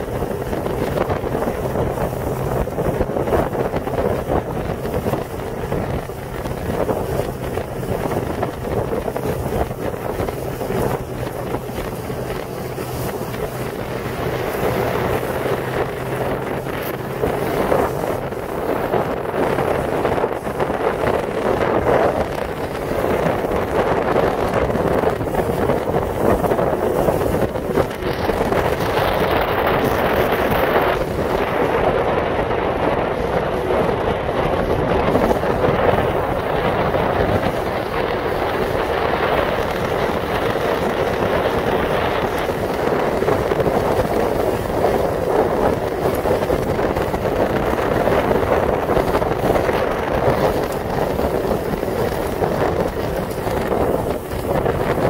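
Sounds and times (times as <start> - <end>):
boat water noise: 0.0 - 55.0
wind buffeting microphone: 0.0 - 55.0.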